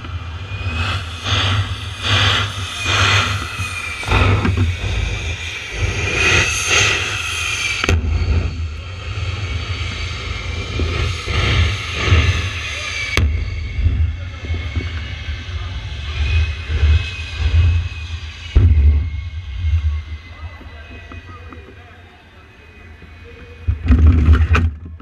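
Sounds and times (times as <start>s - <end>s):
propeller aircraft engines rumbling: 0.0s - 25.0s.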